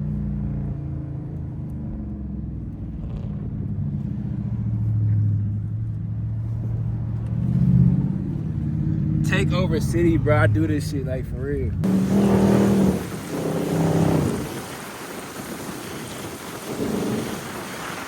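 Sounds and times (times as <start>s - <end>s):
muscle car engine at low revs: 0.0s - 18.0s.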